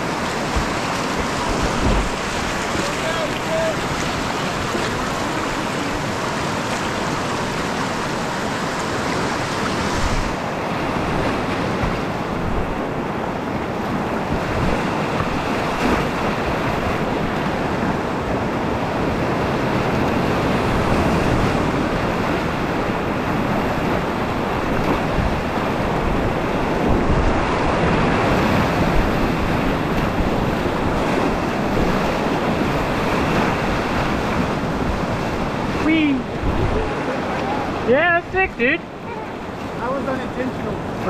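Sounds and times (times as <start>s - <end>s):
whitewater rapids churning: 0.0s - 41.0s.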